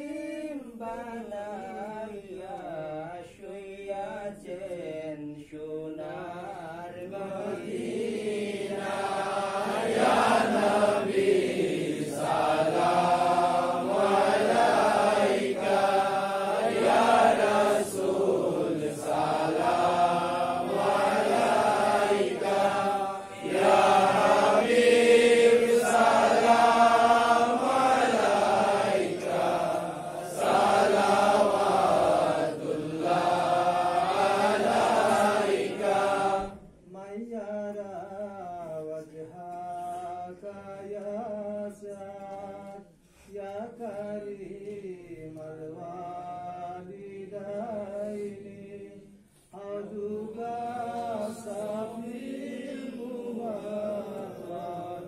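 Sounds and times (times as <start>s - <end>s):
person singing slow devotional chant: 0.0s - 55.0s.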